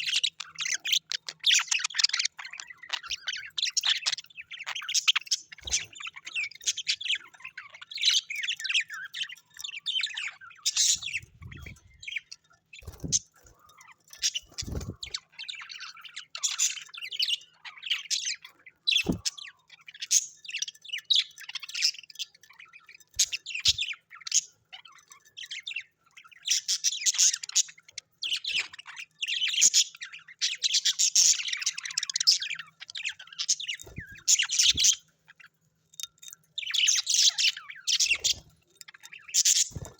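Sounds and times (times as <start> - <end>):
parrots chattering: 0.0 - 20.6, 21.2 - 39.9.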